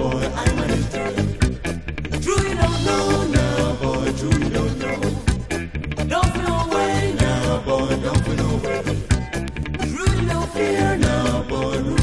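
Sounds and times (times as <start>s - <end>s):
ska band music: 0.2s - 11.9s.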